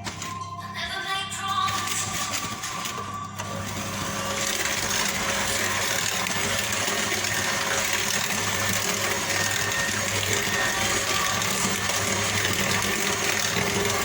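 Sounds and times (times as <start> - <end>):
background music: 0.0 - 14.0
kitchen appliance motor whirring: 1.8 - 14.0.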